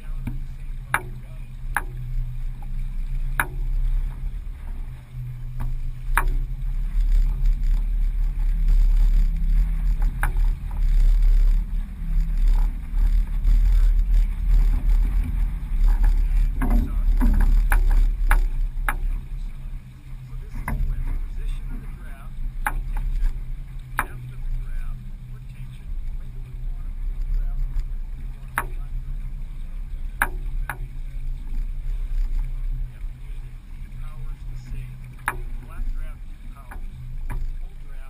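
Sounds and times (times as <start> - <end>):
wind and water rumble: 0.0 - 38.0
sharp clicks and knocks: 0.1 - 4.8, 5.5 - 19.6, 20.2 - 24.9, 27.1 - 29.0, 30.1 - 33.0, 33.8 - 37.6.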